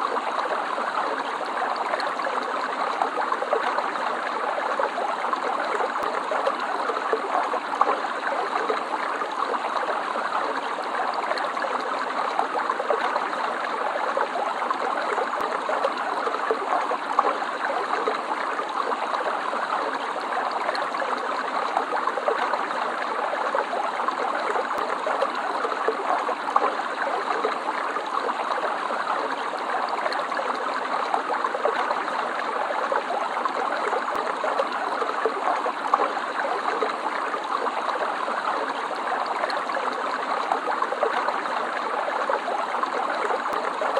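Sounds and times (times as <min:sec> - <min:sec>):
stream water babbling: 0:00.0 - 0:43.9.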